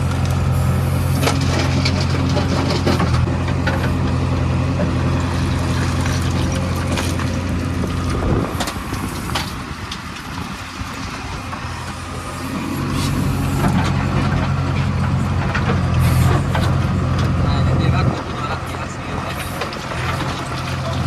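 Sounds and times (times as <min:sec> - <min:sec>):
diesel engine under load: 0:00.0 - 0:21.0
soil and stones crunching: 0:00.0 - 0:21.0.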